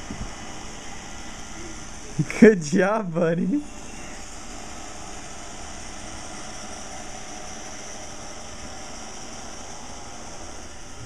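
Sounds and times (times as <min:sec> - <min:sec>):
robot vacuum whirring: 0:00.0 - 0:02.4, 0:03.5 - 0:11.0.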